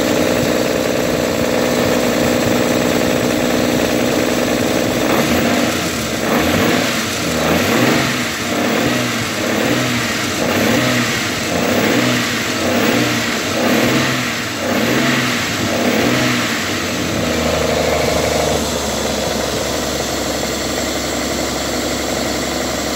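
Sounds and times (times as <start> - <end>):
car engine revving and idling: 0.0 - 22.9.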